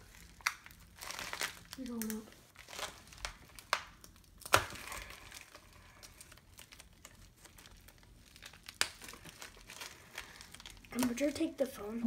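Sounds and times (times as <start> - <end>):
plastic ripping: 0.0 - 11.7
plastic bag crinkling: 0.0 - 12.0.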